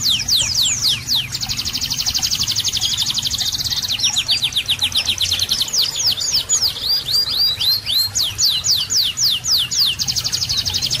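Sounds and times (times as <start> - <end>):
songbird whistling: 0.0 - 11.0.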